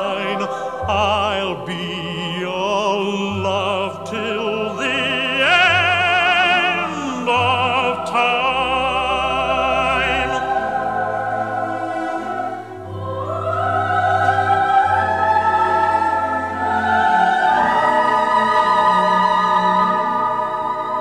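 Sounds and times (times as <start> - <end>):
orchestra and choir sustained chords: 0.0 - 21.0.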